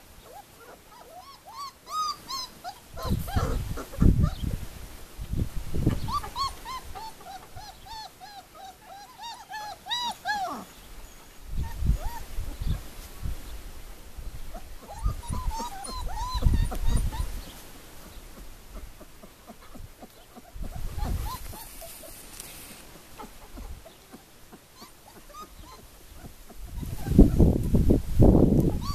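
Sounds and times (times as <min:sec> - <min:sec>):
puppies whining: 0:00.2 - 0:04.6, 0:05.8 - 0:12.8, 0:14.5 - 0:17.6, 0:18.3 - 0:27.5, 0:28.6 - 0:28.9.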